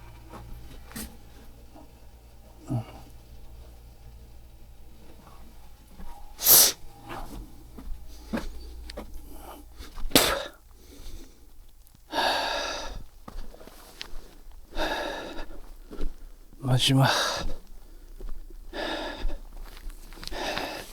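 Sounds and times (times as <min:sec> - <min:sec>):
man breathing heavily: 0:00.0 - 0:20.9.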